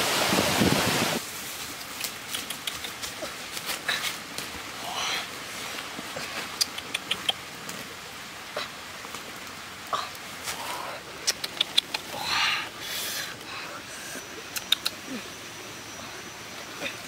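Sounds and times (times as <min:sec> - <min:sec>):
large leaves rustling: 0:00.0 - 0:17.0.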